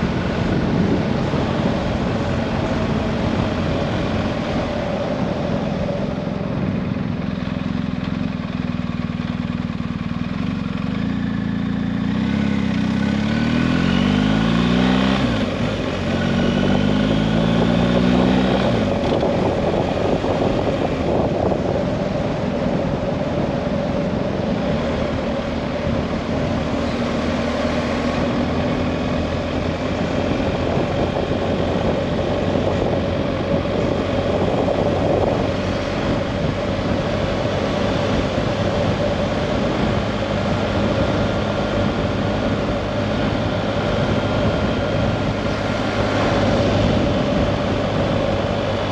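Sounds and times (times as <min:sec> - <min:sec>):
rushing noise of travel: 0:00.0 - 0:48.9
vehicle engine drone: 0:00.0 - 0:48.9.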